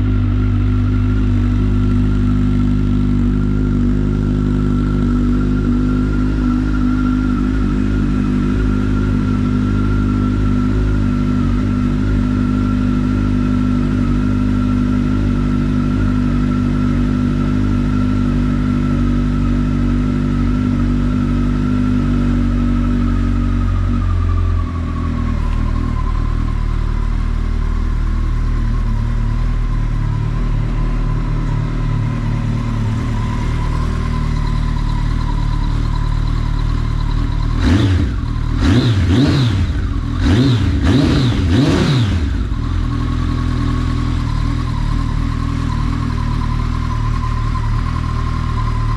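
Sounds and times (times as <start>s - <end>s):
engine throttle blips: 0.0s - 48.9s
motorcycle engine idling: 0.0s - 48.9s.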